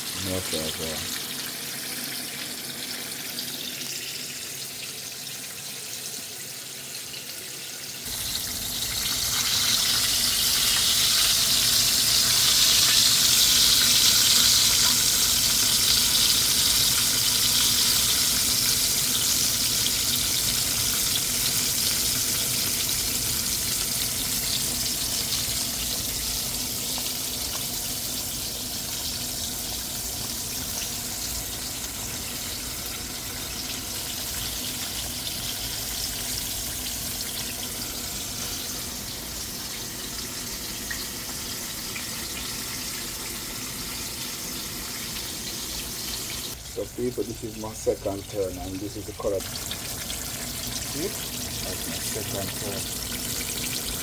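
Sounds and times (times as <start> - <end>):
fish sizzling in oil: 0.0 - 54.0.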